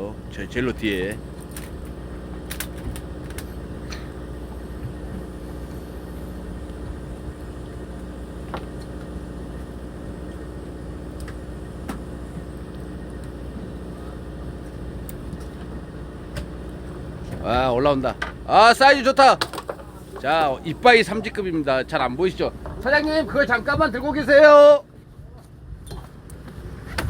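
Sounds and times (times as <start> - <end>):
boat engine drone: 0.0 - 27.0.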